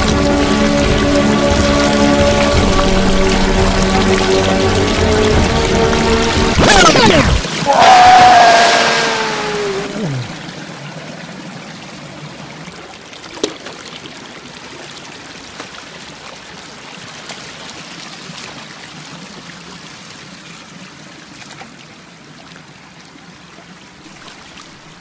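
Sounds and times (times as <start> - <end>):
stream water running and splashing: 0.0 - 25.0.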